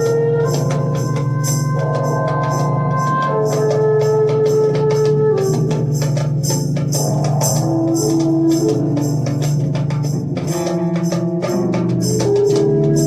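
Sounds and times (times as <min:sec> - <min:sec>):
hand percussion: 0:00.0 - 0:13.0.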